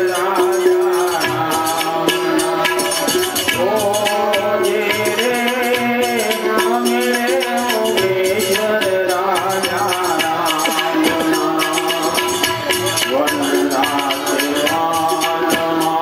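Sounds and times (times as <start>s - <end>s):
hand drums: 0.0s - 16.0s
jingling percussion: 0.0s - 16.0s.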